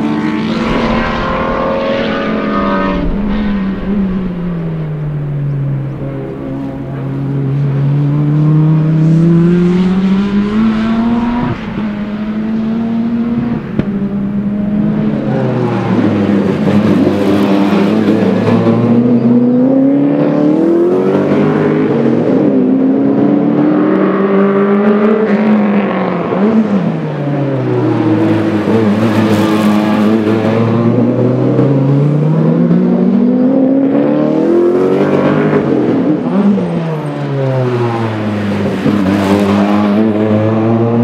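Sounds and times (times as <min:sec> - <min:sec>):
race car engine accelerating: 0:00.0 - 0:41.0.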